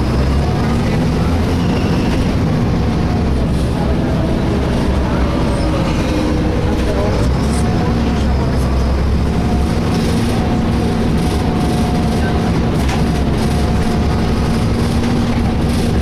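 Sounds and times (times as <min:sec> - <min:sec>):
bus engine rumble: 0:00.0 - 0:16.0
steady whining tones: 0:00.0 - 0:16.0.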